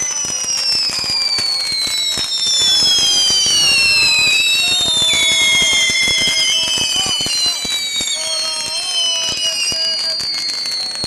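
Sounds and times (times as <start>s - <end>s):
firework crackling: 0.0s - 11.0s
firework whistles: 0.0s - 11.0s.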